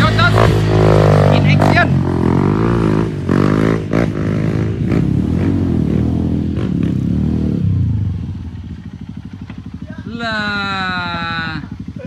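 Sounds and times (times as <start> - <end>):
motorcycle engine revving and idling: 0.0 - 12.0.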